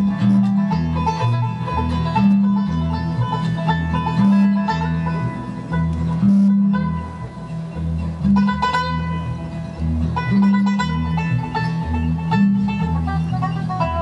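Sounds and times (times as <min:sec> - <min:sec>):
acoustic guitar: 0:00.0 - 0:14.0
banjo picking: 0:00.0 - 0:14.0
bass notes: 0:00.0 - 0:14.0.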